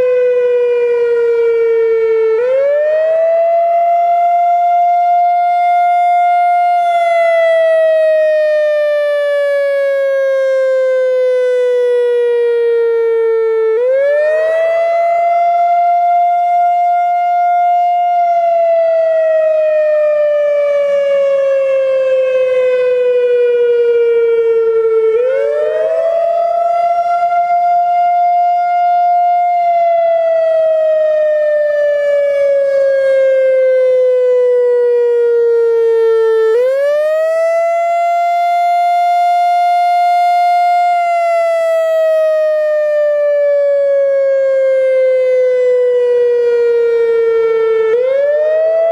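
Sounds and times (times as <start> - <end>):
outdoor warning siren wailing: 0.0 - 48.9.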